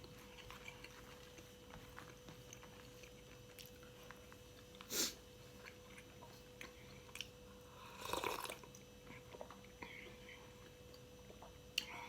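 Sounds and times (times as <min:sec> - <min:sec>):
faint steady hum: 0:00.0 - 0:12.0
person chewing: 0:00.0 - 0:12.0.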